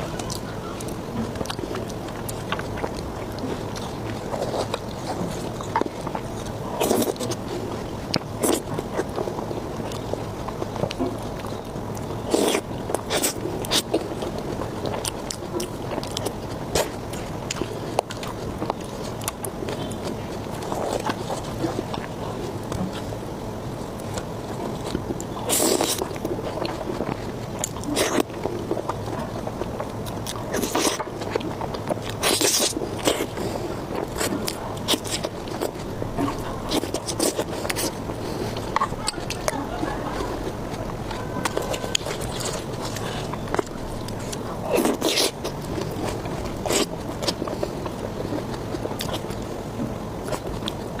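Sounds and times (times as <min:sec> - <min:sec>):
chewing and biting food: 0:00.0 - 0:51.0.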